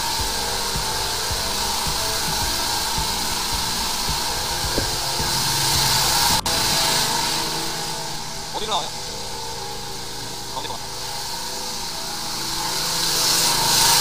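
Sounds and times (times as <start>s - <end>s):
water jet spraying with loud hiss: 0.0s - 14.0s.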